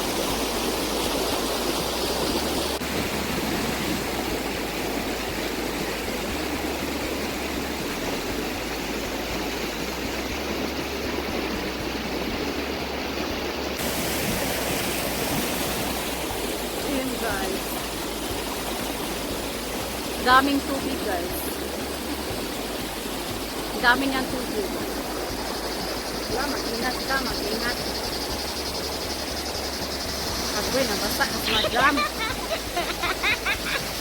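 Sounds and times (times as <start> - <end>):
creek water flowing over rocks: 0.0 - 34.0.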